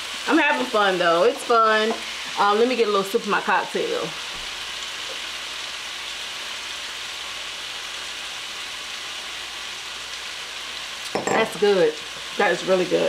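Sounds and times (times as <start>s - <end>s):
food sizzling in frying pans: 0.0s - 13.0s.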